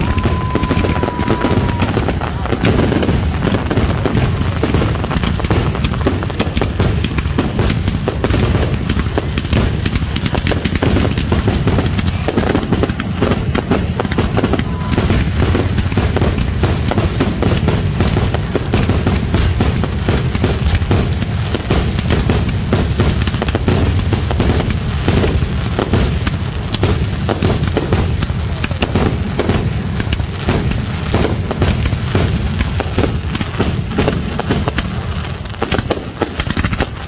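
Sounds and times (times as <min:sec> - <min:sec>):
fireworks cracking and booming: 0:00.0 - 0:37.0.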